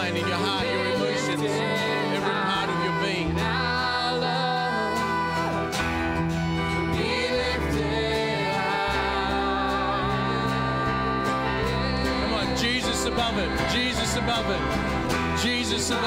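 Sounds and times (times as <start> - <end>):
person singing wordlessly: 0.0 - 5.8, 6.8 - 16.0
worship band playing slow song: 0.0 - 16.0.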